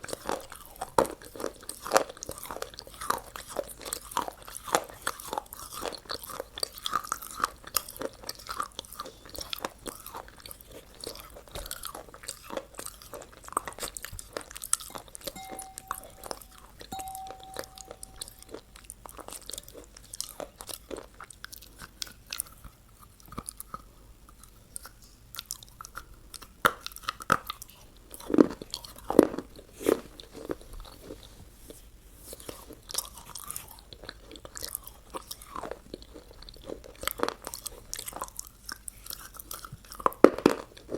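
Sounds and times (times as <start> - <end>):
chewing and crunching food: 0.0 - 16.9, 17.7 - 40.9.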